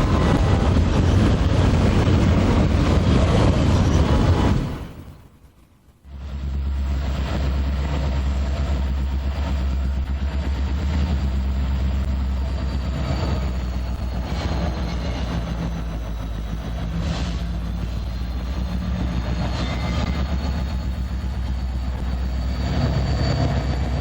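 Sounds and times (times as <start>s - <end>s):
diesel locomotive drone: 0.0s - 24.0s.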